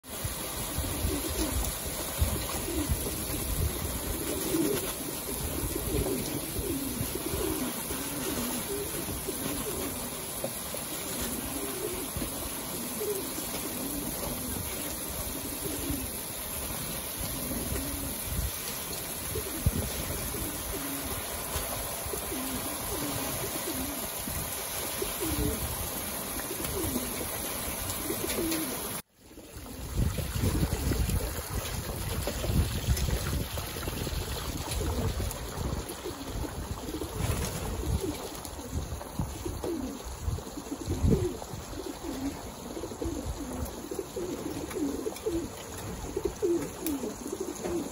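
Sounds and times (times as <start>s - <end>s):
garden hose spraying water: 0.0s - 47.9s
pigeons cooing: 0.1s - 47.9s.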